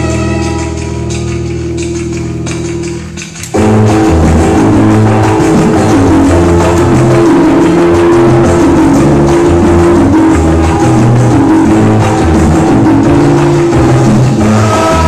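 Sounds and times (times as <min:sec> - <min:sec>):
loud music with beat and bass: 0:00.0 - 0:15.0.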